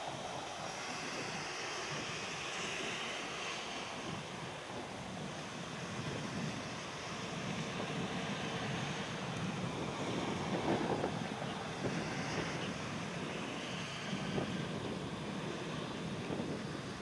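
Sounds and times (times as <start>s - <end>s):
jet airliner accelerating: 0.0s - 17.0s
wind on microphone: 0.0s - 17.0s.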